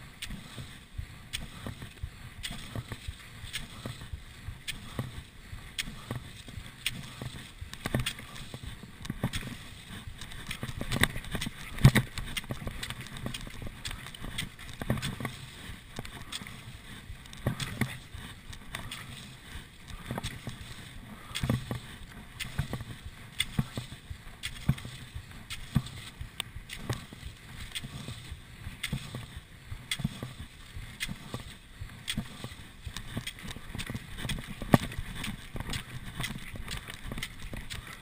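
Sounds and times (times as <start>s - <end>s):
skis swishing in snow: 0.0s - 38.0s
ski poles clicking and thumping: 0.1s - 38.0s.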